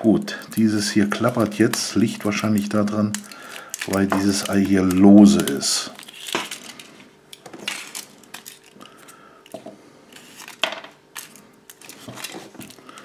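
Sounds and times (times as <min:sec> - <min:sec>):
foil crinkling: 0:00.3 - 0:09.3, 0:10.1 - 0:13.0.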